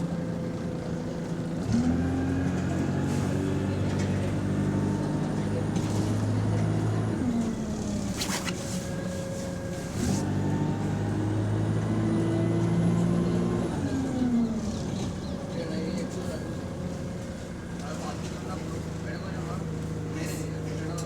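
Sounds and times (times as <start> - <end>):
bus engine running under load: 0.0 - 21.0.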